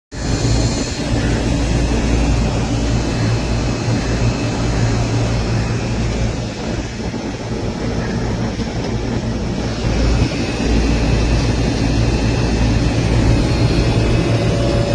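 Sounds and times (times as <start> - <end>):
machine hum: 0.1 - 14.9.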